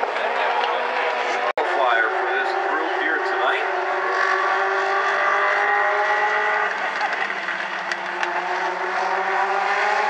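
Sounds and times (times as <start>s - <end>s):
race car engines at speed: 0.0s - 10.0s.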